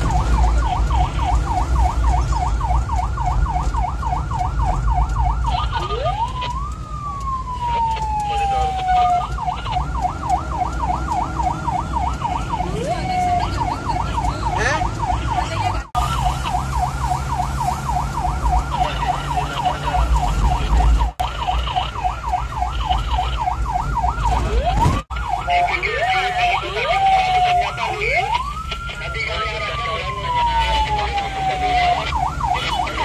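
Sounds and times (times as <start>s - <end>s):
ambulance siren yelping: 0.0s - 33.0s
vehicle rumble: 0.0s - 33.0s.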